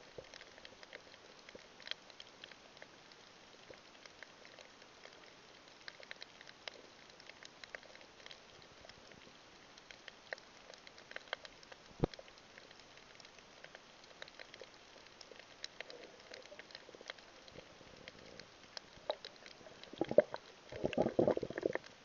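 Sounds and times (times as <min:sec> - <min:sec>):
faint irregular clicks and crackles: 0:00.0 - 0:22.0.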